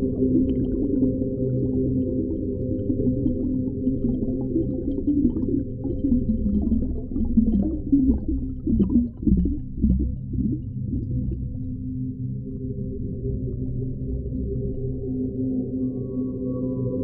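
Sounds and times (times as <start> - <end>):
underwater deep rumble: 0.0 - 17.0.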